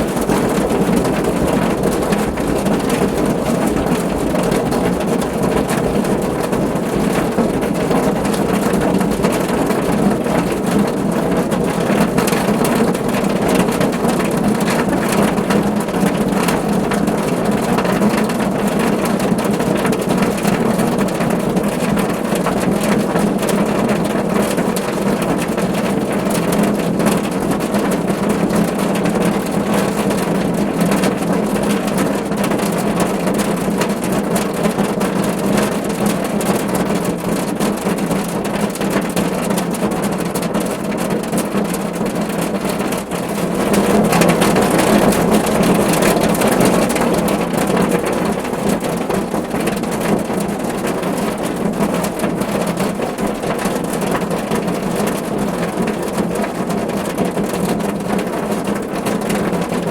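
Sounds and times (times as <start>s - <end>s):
rain drumming on car roof: 0.0s - 59.9s.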